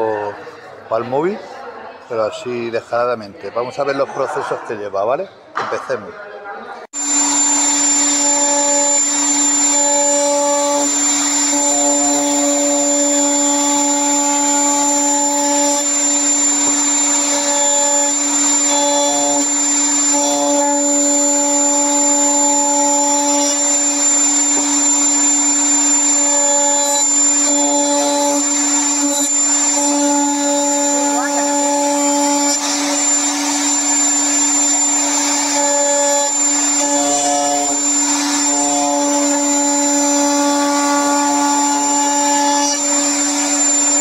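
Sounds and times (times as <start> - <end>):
router table whining: 7.0 - 44.0.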